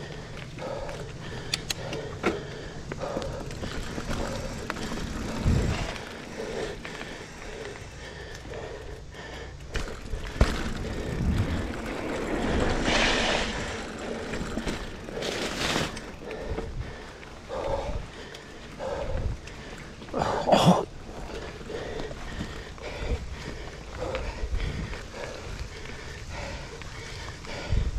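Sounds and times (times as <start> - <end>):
bike tyres rushing on dirt trail: 0.0 - 27.9
low rumbles: 0.0 - 27.9.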